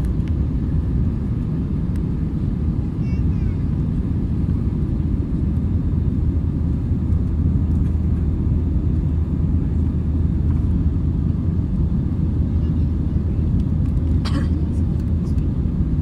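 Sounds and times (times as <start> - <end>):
jet engines and airflow rumble: 0.0 - 16.0.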